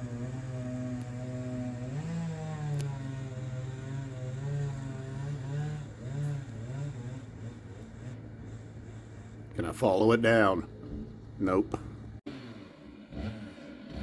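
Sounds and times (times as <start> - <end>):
chainsaw cutting wood: 0.0 - 9.7, 12.0 - 14.0.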